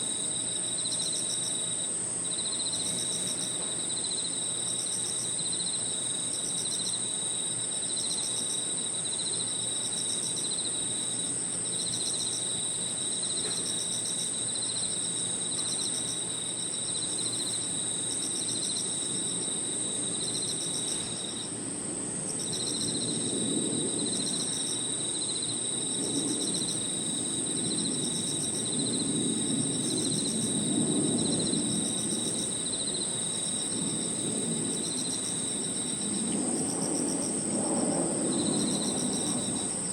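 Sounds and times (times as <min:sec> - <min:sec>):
pulsing insect chirps: 0:00.0 - 0:21.6, 0:22.4 - 0:39.9
crickets and insects trilling: 0:00.0 - 0:39.9.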